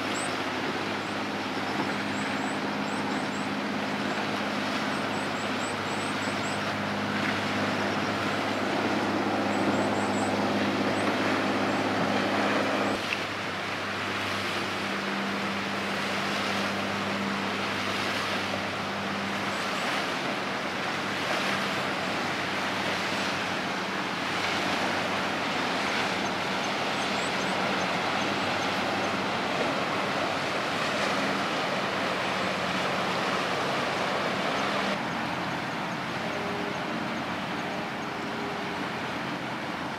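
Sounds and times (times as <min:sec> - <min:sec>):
water washing: 0:00.0 - 0:37.1
ship diesel engines droning: 0:00.0 - 0:39.9.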